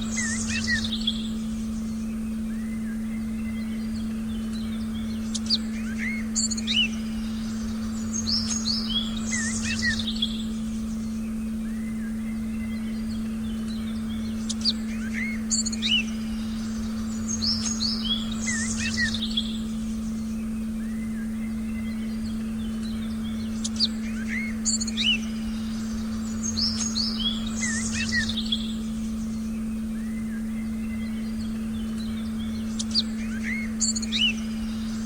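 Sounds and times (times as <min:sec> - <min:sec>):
birds chirping and trilling: 0:00.0 - 0:35.0
low sustained tone: 0:00.0 - 0:35.0.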